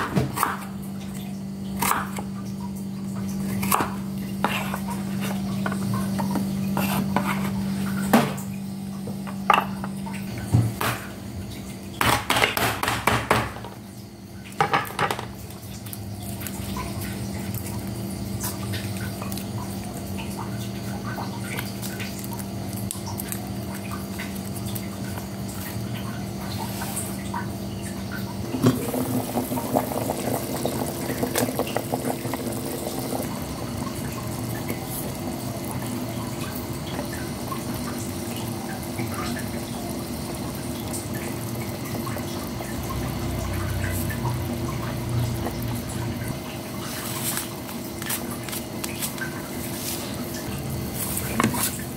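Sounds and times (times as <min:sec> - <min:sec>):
steady watery noise: 0:00.0 - 0:51.9.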